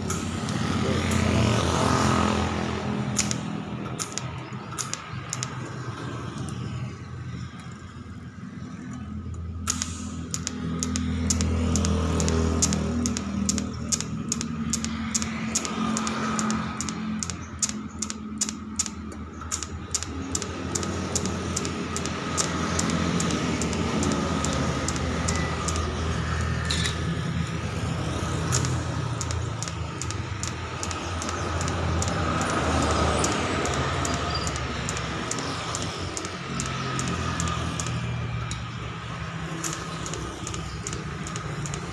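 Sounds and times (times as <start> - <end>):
sharp ticks: 0.0 - 1.6, 2.6 - 6.7, 8.7 - 41.9
welding arc crackling: 0.0 - 6.4, 9.7 - 26.6, 27.2 - 41.9.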